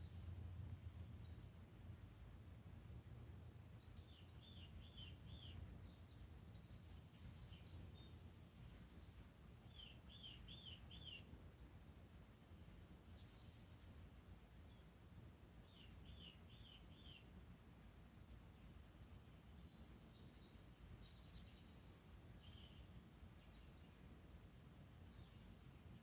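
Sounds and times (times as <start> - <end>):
bird chirping: 0.0 - 1.9, 3.8 - 17.8, 18.5 - 26.0
low steady hum: 0.0 - 26.0.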